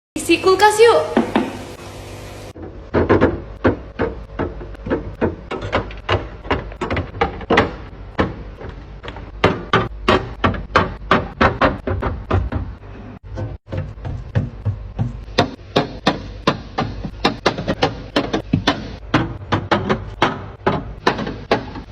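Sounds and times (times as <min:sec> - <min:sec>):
containers knocking in a refrigerator: 0:02.6 - 0:21.9.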